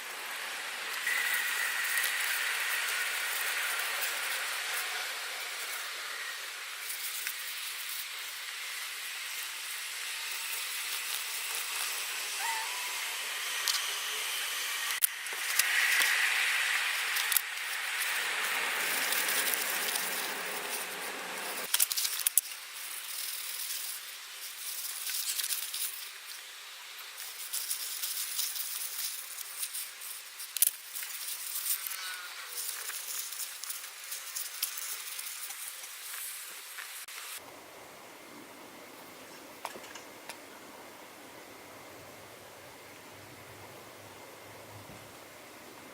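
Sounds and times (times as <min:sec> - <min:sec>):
steady hiss: 0:00.0 - 0:45.9.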